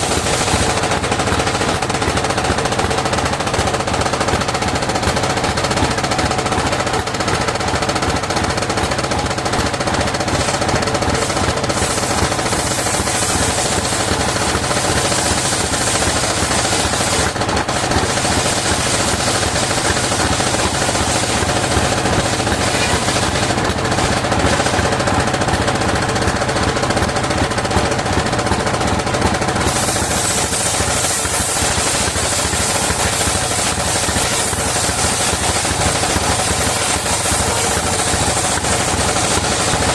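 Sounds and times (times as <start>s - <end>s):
circular saw engine chugging: 0.0s - 39.9s.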